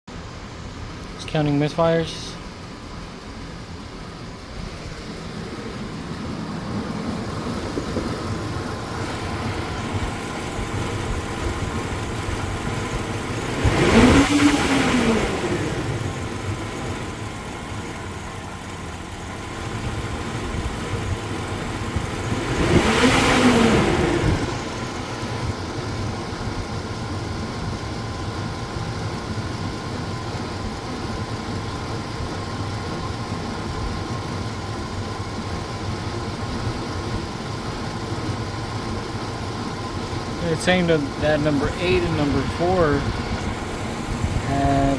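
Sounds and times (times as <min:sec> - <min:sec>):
car engine idling and revving: 0:00.1 - 0:44.9
engine misfires: 0:00.3 - 0:44.9.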